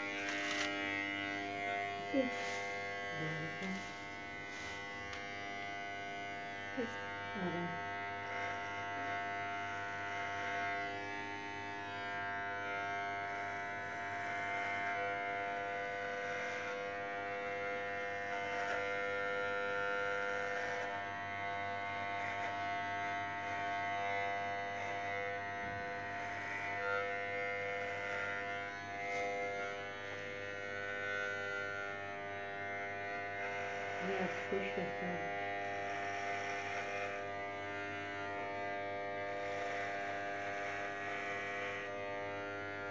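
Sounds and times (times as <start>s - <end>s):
electric hair clippers buzzing: 0.0s - 42.9s.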